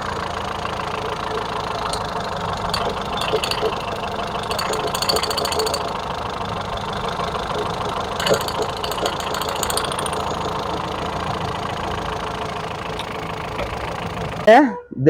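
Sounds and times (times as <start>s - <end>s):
car engine idling: 0.0s - 14.5s
fast metallic clicking: 0.0s - 14.5s.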